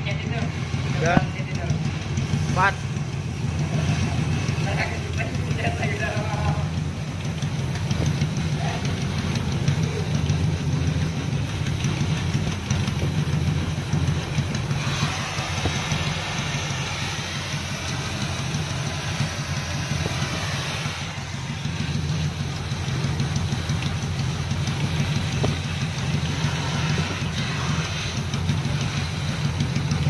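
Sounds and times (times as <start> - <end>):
gas torch hissing: 0.0 - 30.0.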